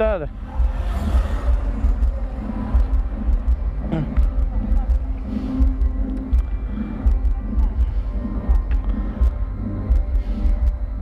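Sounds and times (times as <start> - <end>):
bass and drums beat: 0.0 - 11.0.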